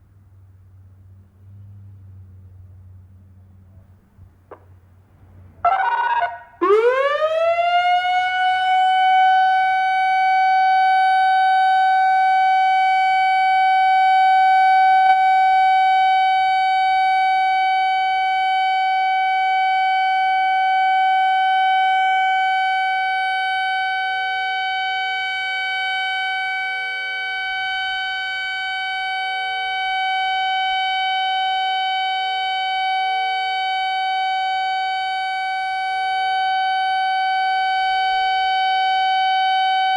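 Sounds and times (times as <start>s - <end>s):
outdoor warning siren: 5.5s - 39.9s.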